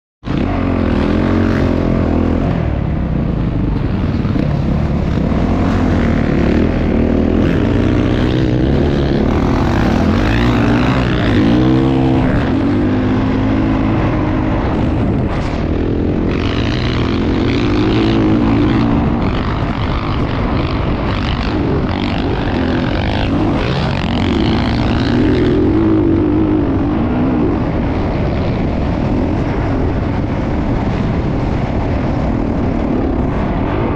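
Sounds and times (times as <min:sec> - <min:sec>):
motocross bike engine revving: 0:00.3 - 0:31.0.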